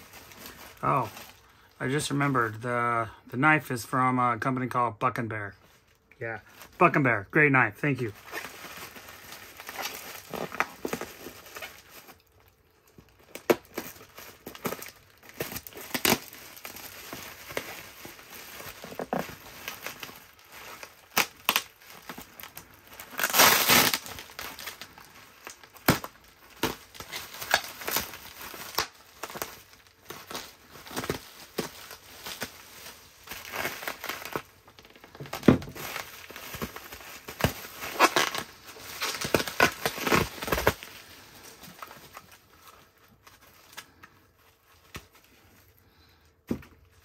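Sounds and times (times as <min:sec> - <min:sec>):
packing material crinkling: 0:00.0 - 0:02.6, 0:05.7 - 0:47.0.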